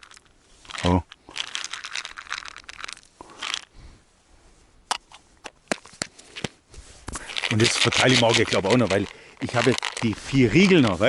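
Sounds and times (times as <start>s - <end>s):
crinkling and crunching handling noise: 0.0s - 3.8s, 4.8s - 11.0s.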